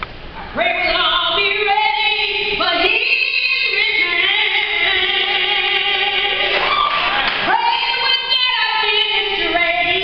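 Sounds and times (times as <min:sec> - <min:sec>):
woman singing gospel: 0:00.5 - 0:10.0.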